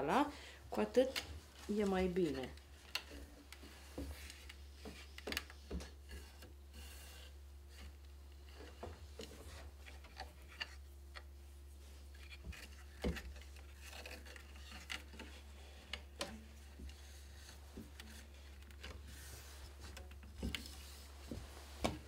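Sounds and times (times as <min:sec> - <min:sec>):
steady low hum: 0:00.0 - 0:22.0
soft rubbing of threads: 0:00.9 - 0:22.0.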